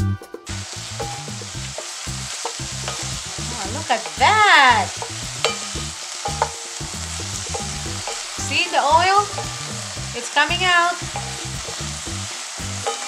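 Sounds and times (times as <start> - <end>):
meat sizzling in a pan: 0.5 - 13.0.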